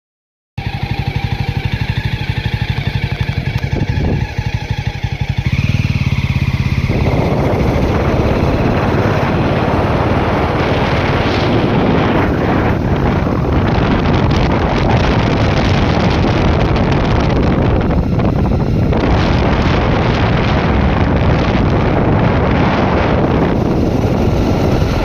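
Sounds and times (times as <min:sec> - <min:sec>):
engine running with fast pulsing: 0:00.6 - 0:25.0
wind noise on microphone: 0:00.6 - 0:25.0.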